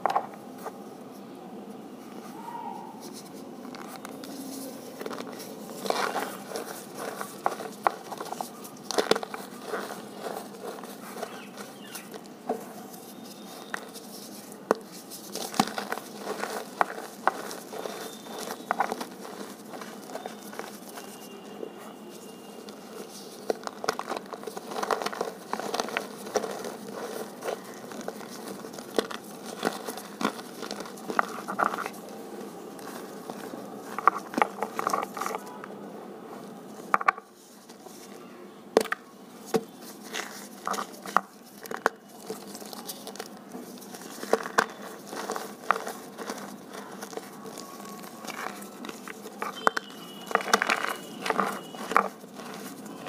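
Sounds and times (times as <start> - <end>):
hands crushing crunchy material: 2.2 - 35.7, 36.7 - 53.0.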